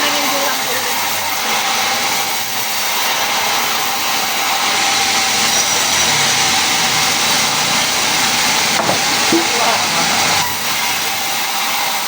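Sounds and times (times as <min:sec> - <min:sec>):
woodworking power tool whirring: 0:00.0 - 0:12.0.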